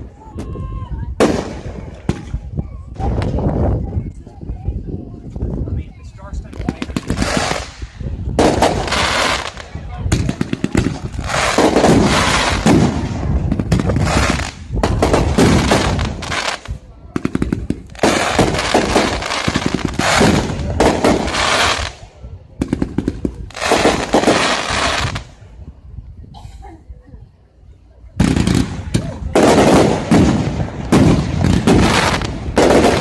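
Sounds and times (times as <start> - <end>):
fireworks exploding: 0.0 - 4.0, 6.0 - 25.6, 28.2 - 33.0.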